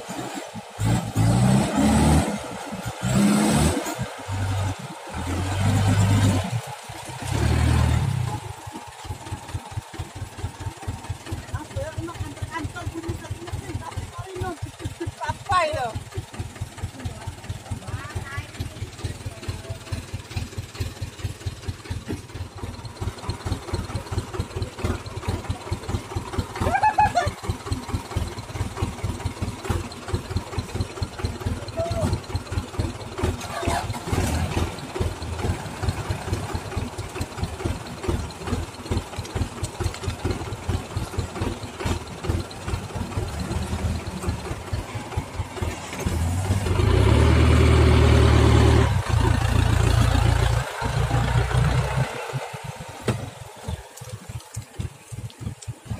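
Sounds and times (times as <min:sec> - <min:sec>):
diesel truck engines chugging: 0:00.0 - 0:55.9.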